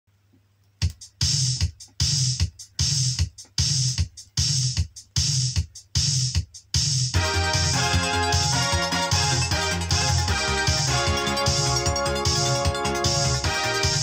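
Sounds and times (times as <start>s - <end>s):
synth pop with drum machine: 0.8s - 14.0s.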